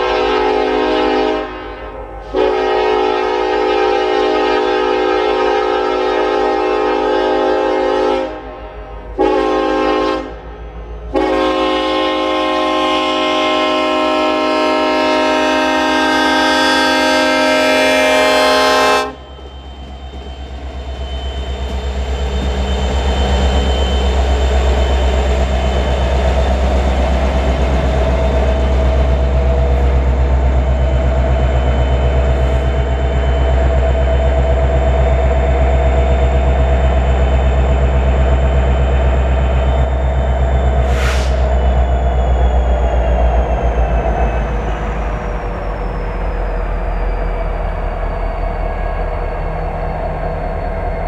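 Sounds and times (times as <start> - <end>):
diesel locomotives rumbling: 0.0 - 51.0.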